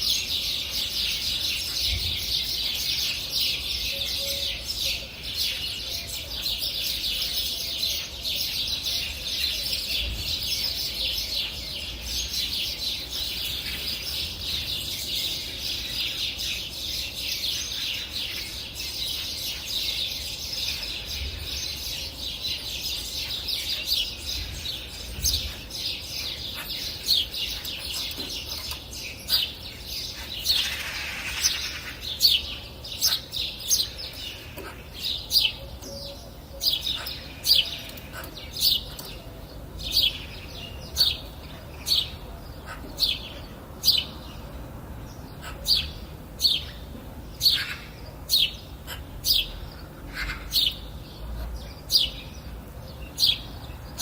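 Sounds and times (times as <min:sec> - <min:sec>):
small birds chirping and twittering: 0:00.0 - 0:54.0.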